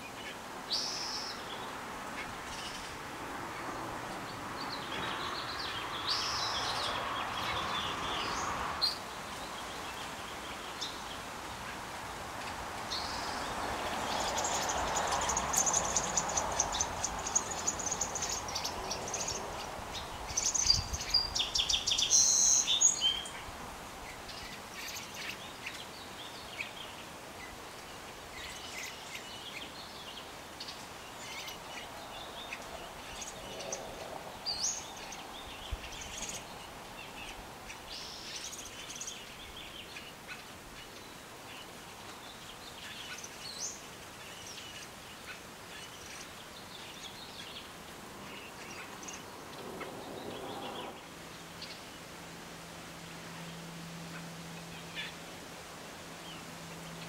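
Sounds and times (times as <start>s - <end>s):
birds chirping: 0.0s - 52.4s, 53.2s - 57.0s
steady outdoor hiss: 0.0s - 57.0s.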